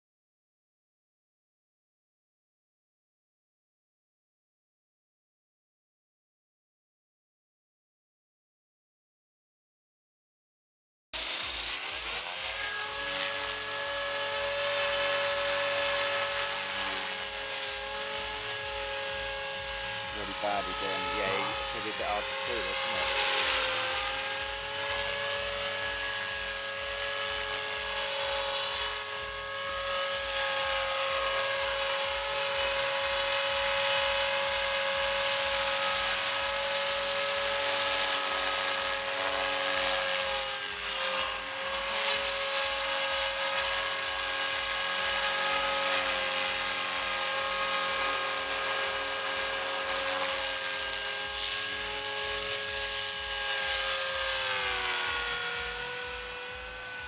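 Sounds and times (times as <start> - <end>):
rc helicopter motor whine: 11.2 - 57.0.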